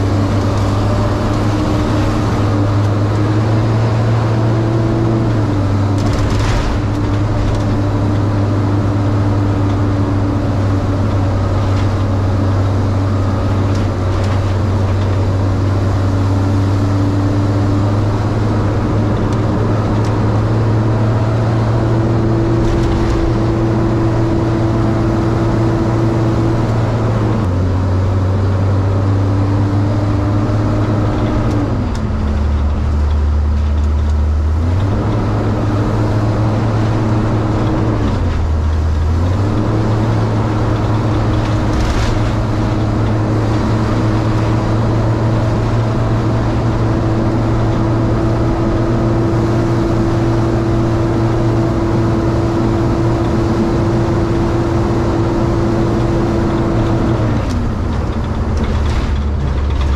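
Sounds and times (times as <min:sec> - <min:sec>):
tyre and road noise: 0:00.0 - 0:59.9
van engine droning: 0:00.0 - 0:59.9.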